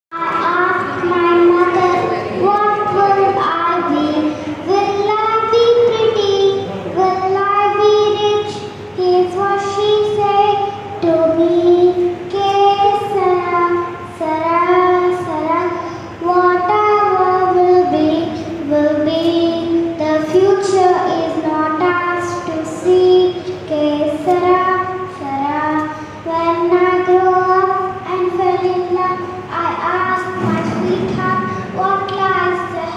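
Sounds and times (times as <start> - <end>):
girl singing into a microphone: 0.1 - 32.9.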